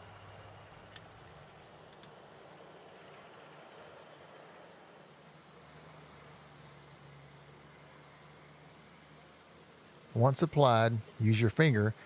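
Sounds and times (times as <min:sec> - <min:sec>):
faint high chirp: 0:00.0 - 0:10.0
faint outdoor background noise: 0:00.0 - 0:12.0.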